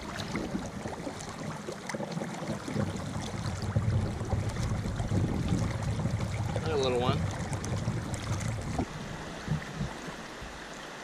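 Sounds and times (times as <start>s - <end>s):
river current rushing and lapping: 0.0s - 11.0s.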